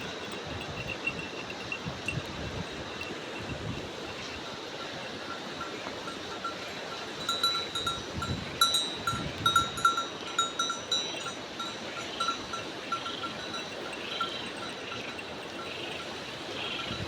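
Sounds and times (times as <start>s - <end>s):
bells on grazing flock clinking: 0.0s - 17.0s.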